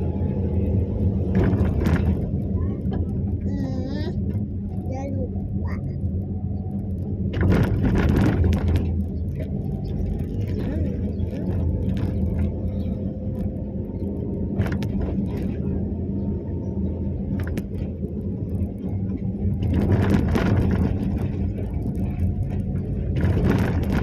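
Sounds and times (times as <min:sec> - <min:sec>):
road noise: 0:00.0 - 0:24.0
vehicle engine idling: 0:00.0 - 0:24.0.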